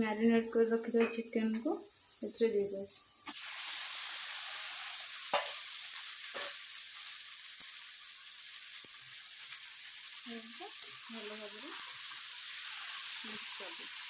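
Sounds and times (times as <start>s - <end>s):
chicken sizzling in hot oil: 0.1s - 14.0s.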